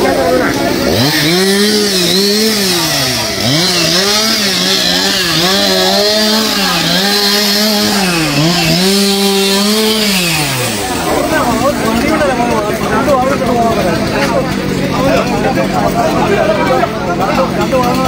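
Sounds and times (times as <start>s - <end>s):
chainsaw cutting a tree: 0.0s - 18.0s.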